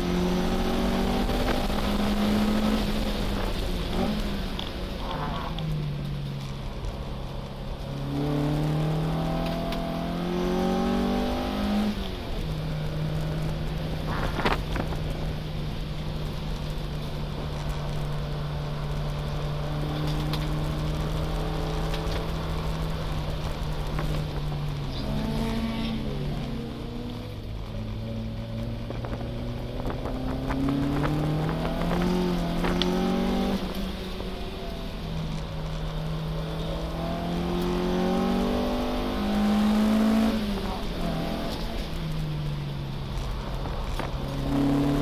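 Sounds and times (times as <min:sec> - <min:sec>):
race car engine revving: 0:00.0 - 0:05.8, 0:07.7 - 0:15.3, 0:16.8 - 0:42.0, 0:43.2 - 0:45.0.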